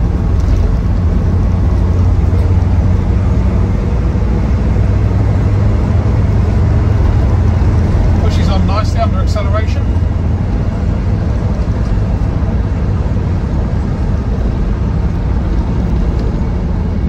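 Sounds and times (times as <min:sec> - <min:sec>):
diesel engine cruising: 0:00.0 - 0:17.0
road and wind noise: 0:00.0 - 0:17.0.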